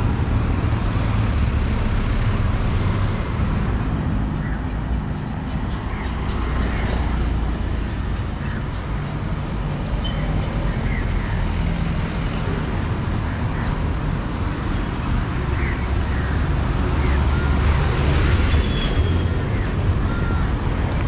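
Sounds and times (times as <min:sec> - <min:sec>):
low rumble of road vehicles: 0:00.0 - 0:21.0.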